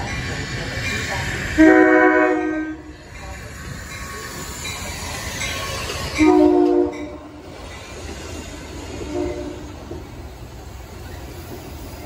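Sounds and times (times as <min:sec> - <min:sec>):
train cars rumbling: 0:00.0 - 0:12.0.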